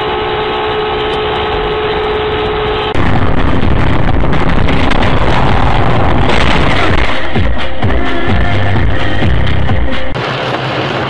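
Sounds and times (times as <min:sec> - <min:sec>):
steady tone: 0:00.0 - 0:10.2
vehicle running noise: 0:00.0 - 0:11.0.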